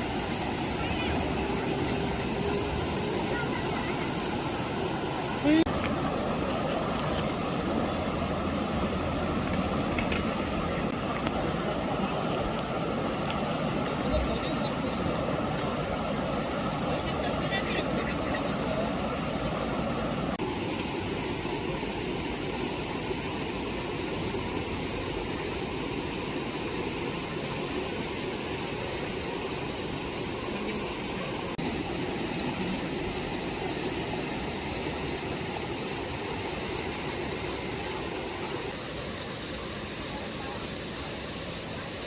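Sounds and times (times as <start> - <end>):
stream water rushing: 0.0 - 42.0.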